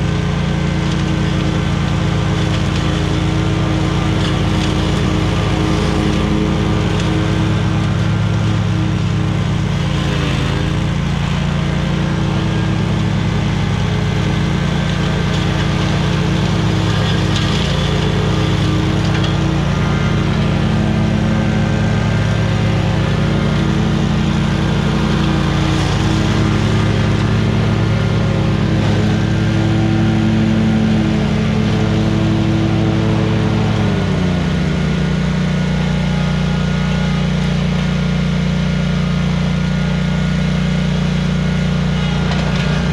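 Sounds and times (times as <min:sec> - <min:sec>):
small engine cutting grass: 0:00.0 - 0:42.9.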